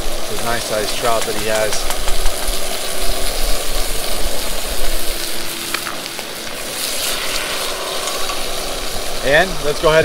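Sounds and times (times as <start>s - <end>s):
fish sizzling in butter: 0.0s - 10.0s.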